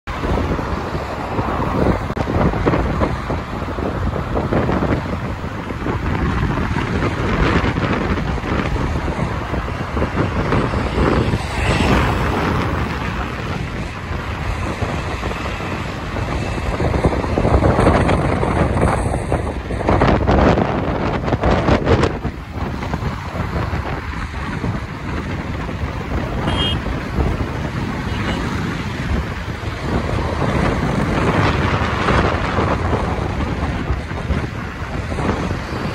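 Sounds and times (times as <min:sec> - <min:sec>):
road traffic: 0:00.0 - 0:35.9
wind blowing across microphone: 0:00.0 - 0:35.9.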